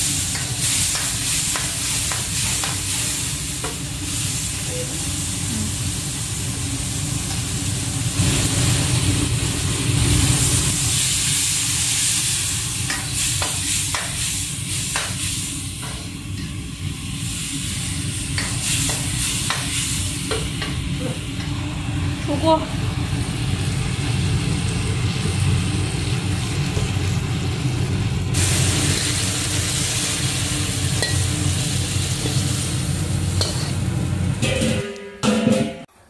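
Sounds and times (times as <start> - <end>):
pork sizzling in a wok: 0.0 - 36.0.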